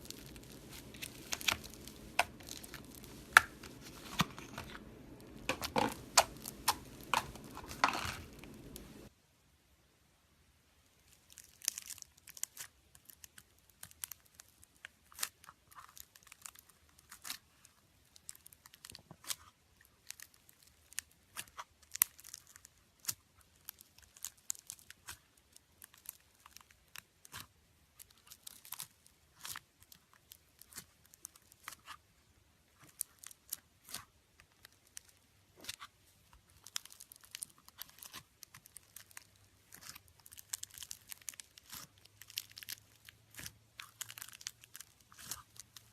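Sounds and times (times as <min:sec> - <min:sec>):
slime crackling and popping: 0:00.0 - 0:09.1, 0:11.0 - 0:45.9.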